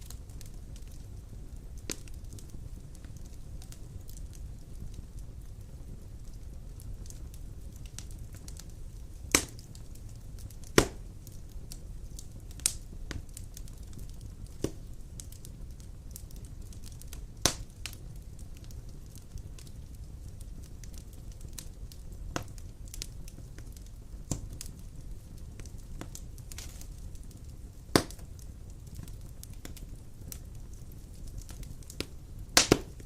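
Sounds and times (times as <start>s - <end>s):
sharp fire pops: 0.0s - 33.0s
wood fire crackling: 0.0s - 33.0s.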